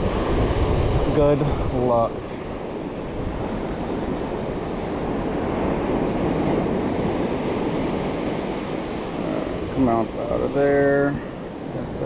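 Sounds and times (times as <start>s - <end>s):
ocean surf washing onto beach: 0.0s - 12.0s
wind on microphone: 0.0s - 12.0s.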